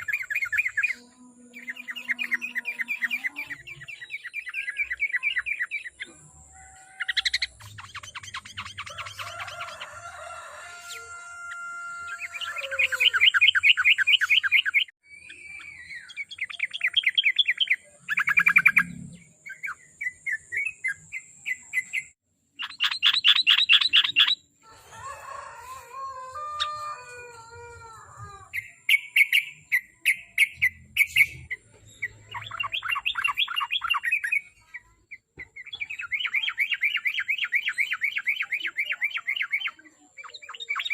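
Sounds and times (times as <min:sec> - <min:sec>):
bird singing trilled notes: 0:00.0 - 0:10.0, 0:11.1 - 0:24.5, 0:28.5 - 0:40.9.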